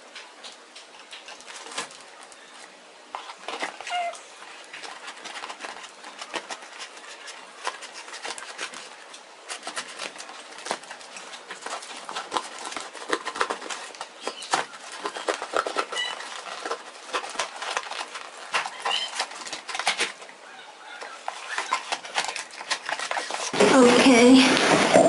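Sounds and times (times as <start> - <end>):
packaging crinkling and rustling: 0.0 - 20.4, 21.0 - 25.0.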